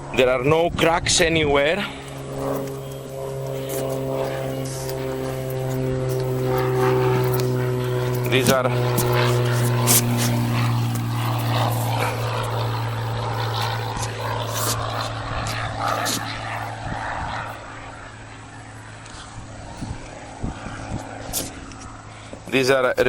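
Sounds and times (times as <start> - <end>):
aircraft engine droning: 0.0 - 23.0
rushing background noise: 0.0 - 23.0.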